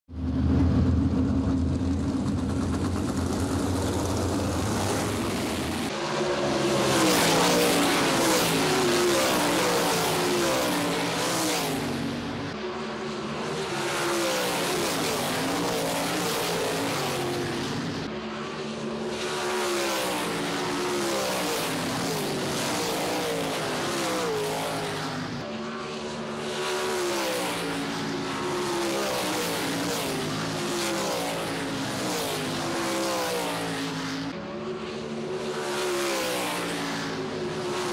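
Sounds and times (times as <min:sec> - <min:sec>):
race car engines passing: 0:00.1 - 0:37.9.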